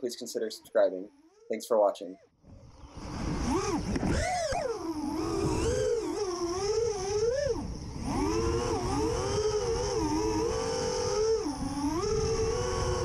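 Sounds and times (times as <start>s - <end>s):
quadcopter propeller whine: 2.4s - 13.0s.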